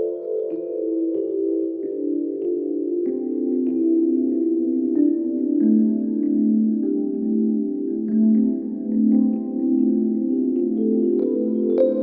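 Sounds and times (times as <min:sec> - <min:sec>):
ambient music with bell-like tones: 0:00.0 - 0:12.0.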